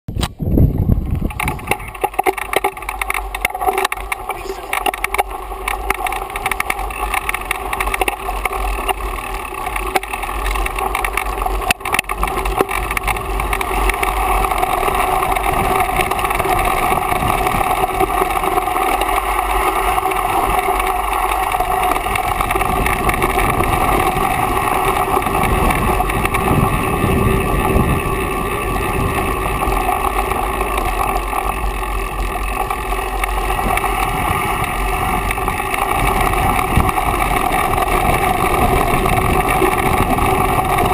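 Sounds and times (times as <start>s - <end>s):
wind on microphone: 0.1s - 8.0s, 11.6s - 19.1s, 19.8s - 40.9s
bike rattling: 0.1s - 40.9s
steady whirring: 0.2s - 40.9s
tyres rolling over dirt: 0.4s - 40.9s.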